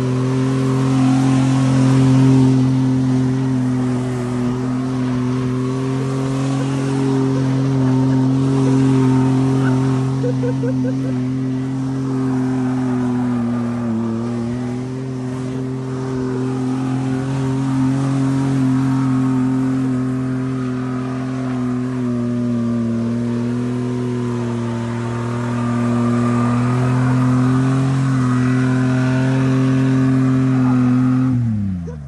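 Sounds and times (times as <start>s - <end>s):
truck engine revving: 0.0s - 32.0s.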